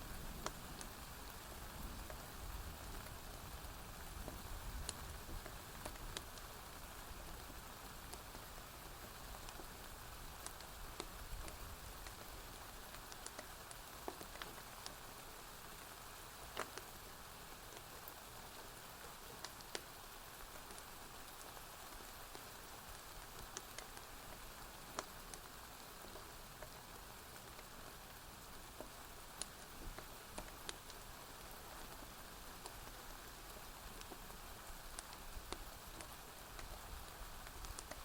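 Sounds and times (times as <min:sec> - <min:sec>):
quiet rain hiss: 0:00.0 - 0:38.0
wood fire crackling: 0:00.0 - 0:38.0.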